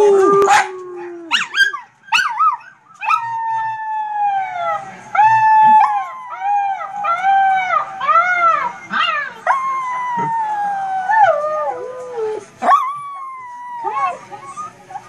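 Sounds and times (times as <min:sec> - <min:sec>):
small dog howling: 0:00.0 - 0:15.0.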